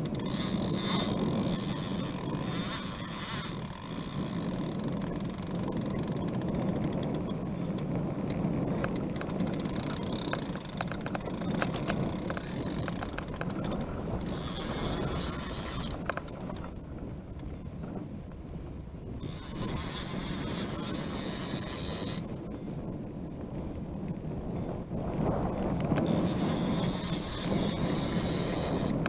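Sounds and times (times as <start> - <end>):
outboard motor running: 0.0 - 16.8, 19.2 - 22.7, 25.6 - 29.0.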